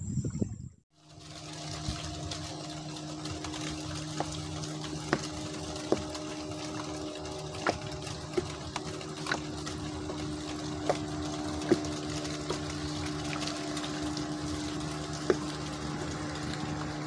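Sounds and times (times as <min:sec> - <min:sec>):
small motor humming: 0:01.0 - 0:17.0.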